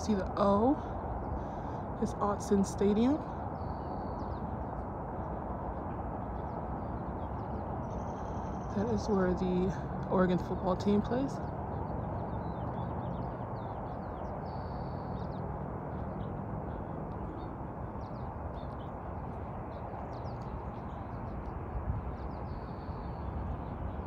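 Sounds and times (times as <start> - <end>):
birds chirping: 0.0 - 24.0
low background rumble: 0.0 - 24.0.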